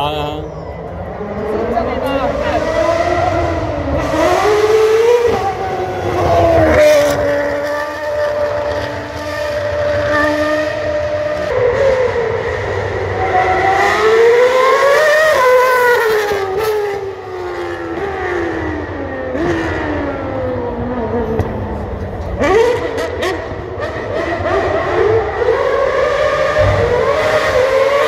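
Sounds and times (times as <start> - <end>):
racing car engine at high revs: 0.1 - 28.0.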